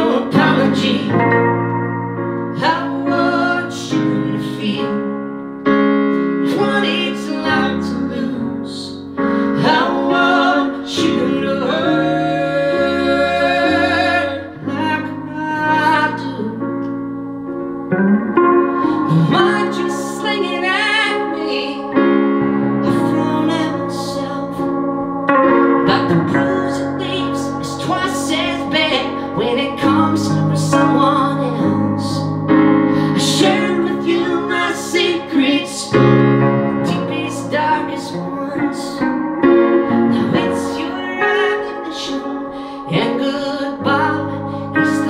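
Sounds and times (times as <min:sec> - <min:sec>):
plucked guitar notes: 0:00.0 - 0:06.4, 0:09.3 - 0:45.0
keyboard chords: 0:00.0 - 0:45.0.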